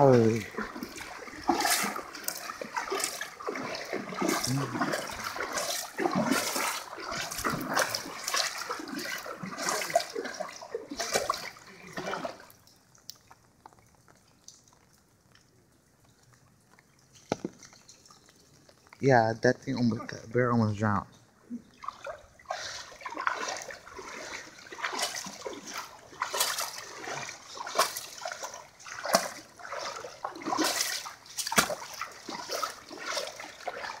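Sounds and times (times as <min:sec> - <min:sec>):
feet wading through water: 0:00.0 - 0:15.4, 0:21.4 - 0:34.0.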